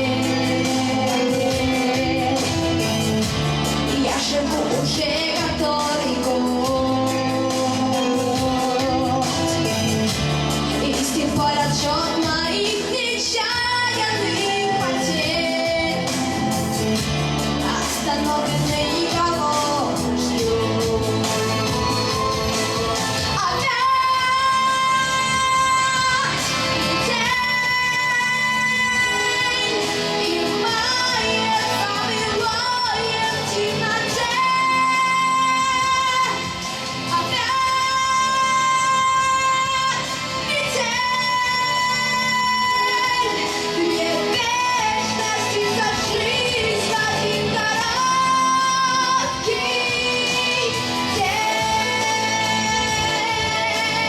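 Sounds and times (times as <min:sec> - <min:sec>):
boy singing pop song: 0:00.0 - 0:54.0
instrumental accompaniment: 0:00.0 - 0:54.0.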